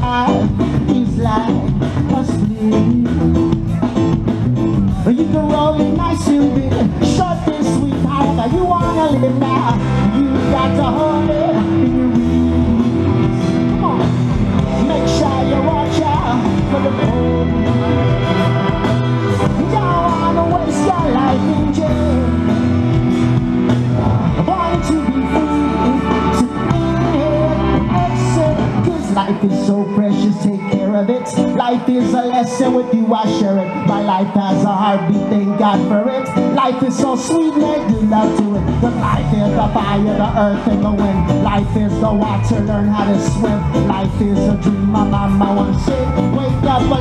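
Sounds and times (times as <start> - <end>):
live band playing through pa: 0.0 - 47.0
man singing: 0.0 - 47.0.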